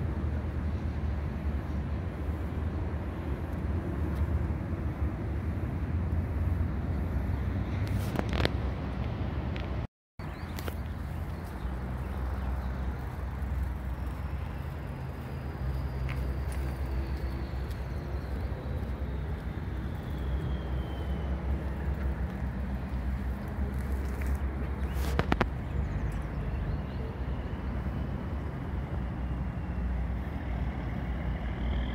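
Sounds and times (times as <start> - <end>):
road traffic engine rumble: 0.0 - 31.9.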